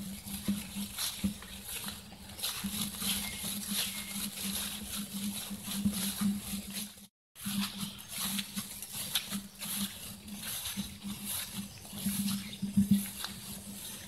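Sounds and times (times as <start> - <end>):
footsteps through wet grass: 0.0 - 14.0
rustling of undergrowth: 0.0 - 14.0.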